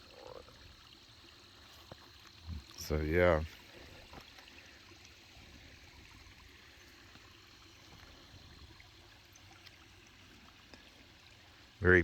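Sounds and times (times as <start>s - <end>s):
faint rush of running water: 0.0s - 12.0s.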